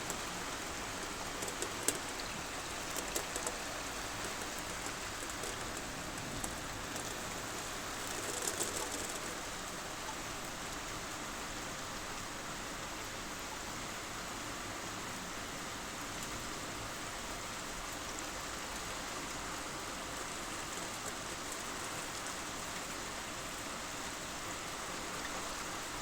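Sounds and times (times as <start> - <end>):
rain falling steadily: 0.0 - 26.0.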